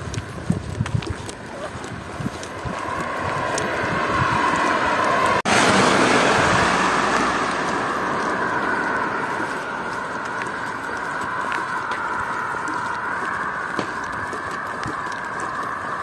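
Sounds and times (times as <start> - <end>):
car driving past: 2.5 - 16.0.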